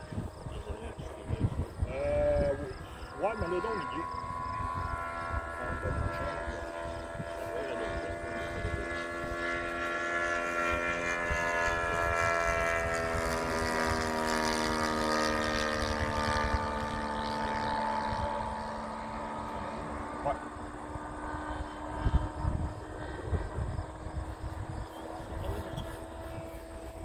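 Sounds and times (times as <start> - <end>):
model plane engine buzzing drone: 0.0 - 27.0
wind rumble on microphone: 0.0 - 27.0.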